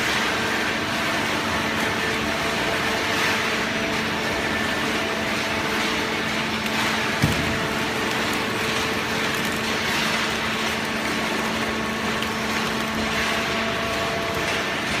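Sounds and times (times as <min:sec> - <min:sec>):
baler motor and pump humming: 0:00.0 - 0:15.0.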